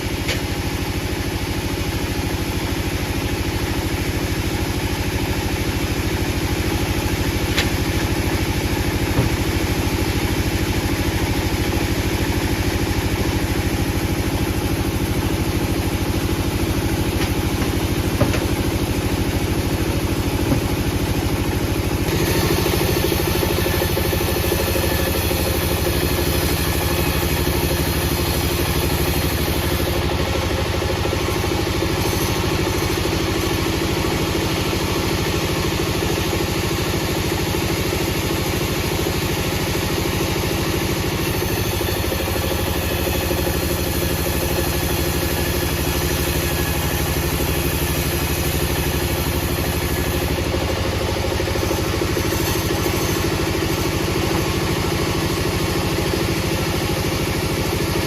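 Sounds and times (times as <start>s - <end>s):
machinery engine running: 0.0s - 58.0s.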